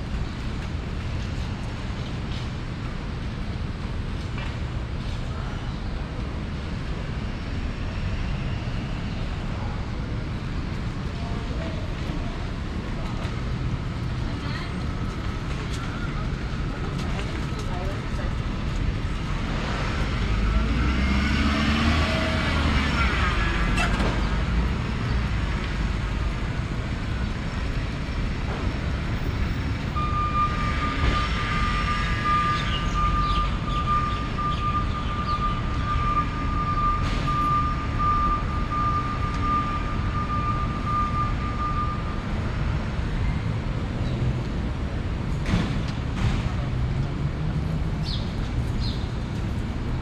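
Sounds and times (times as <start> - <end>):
traffic rumble: 0.0 - 50.0
vehicles passing: 0.0 - 50.0.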